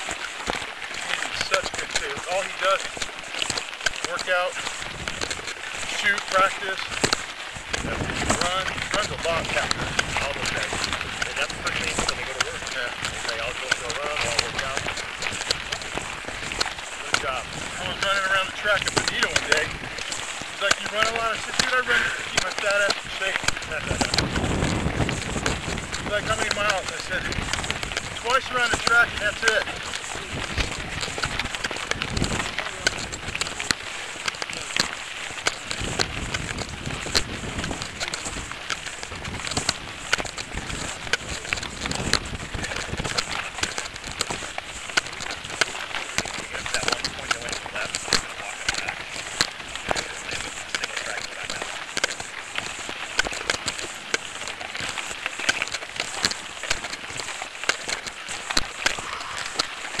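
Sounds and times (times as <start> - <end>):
gravel crackling under tyres: 0.0 - 60.0.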